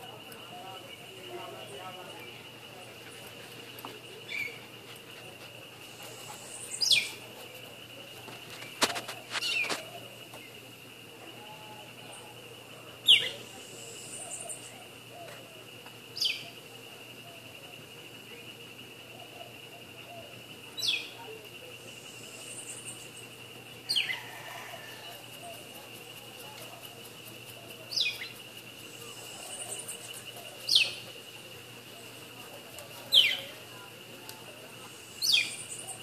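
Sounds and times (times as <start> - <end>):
high-pitched insect drone: 0.0 - 36.0.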